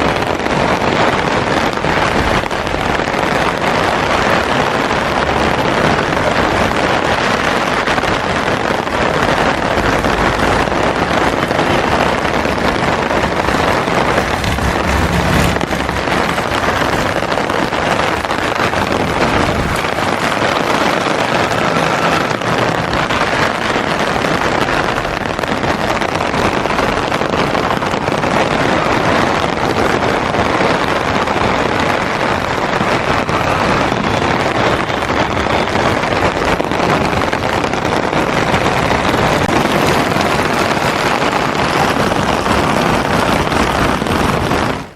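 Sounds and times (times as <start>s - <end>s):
heavy rain on an umbrella: 0.0s - 44.9s.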